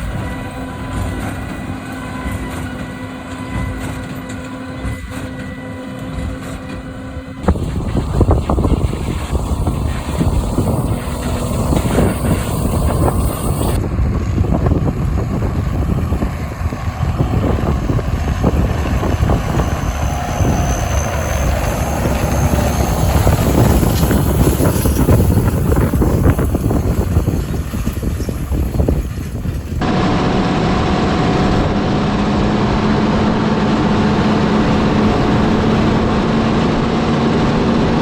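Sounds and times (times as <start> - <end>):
tractor and baler running: 0.0 - 38.0
wind buffeting microphone: 0.0 - 38.0.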